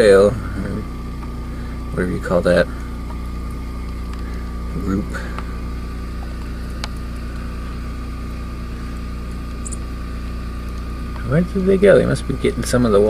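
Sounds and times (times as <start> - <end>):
machine humming: 0.0 - 13.0
thin steady whine: 0.0 - 13.0.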